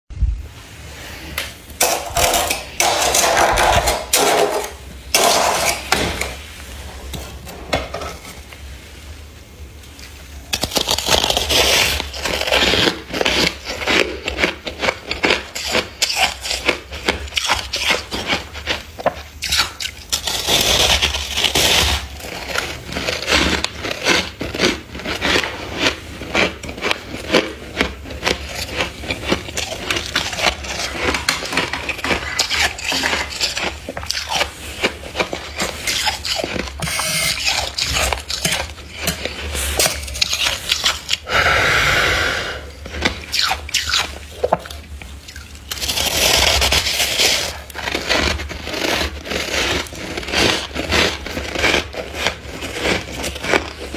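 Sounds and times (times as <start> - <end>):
plastic scraper scraping frost: 1.1 - 6.4, 10.5 - 44.2, 45.7 - 53.9.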